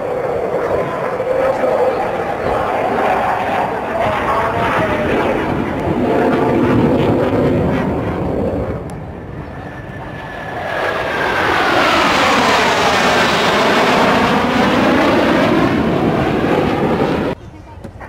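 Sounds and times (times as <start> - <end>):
jets roaring past: 0.0 - 17.4.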